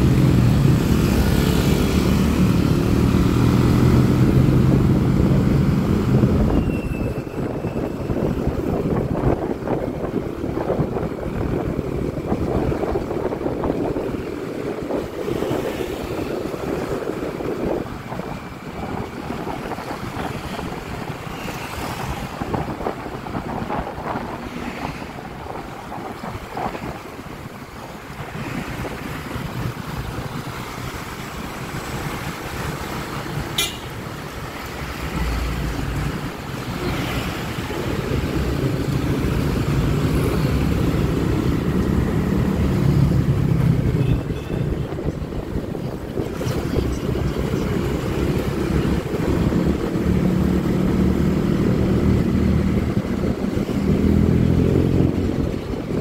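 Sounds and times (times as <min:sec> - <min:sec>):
road and traffic noise: 0:00.0 - 0:56.0
wind buffeting microphone: 0:00.0 - 0:56.0.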